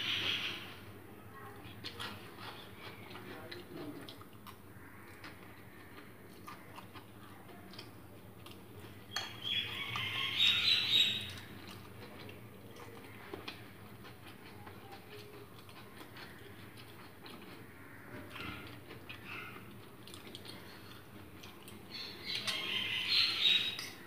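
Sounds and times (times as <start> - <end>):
chewing: 1.3 - 24.0.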